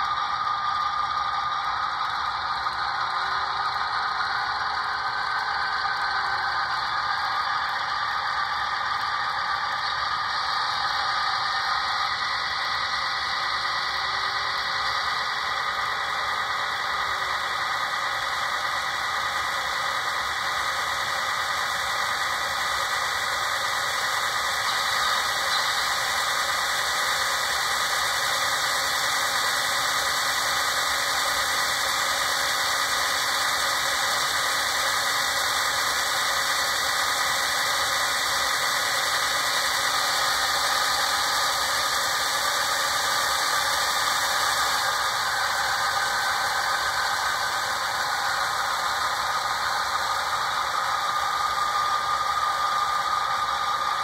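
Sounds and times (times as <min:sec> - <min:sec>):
diesel engine sound from small speaker: 0:00.0 - 0:54.0.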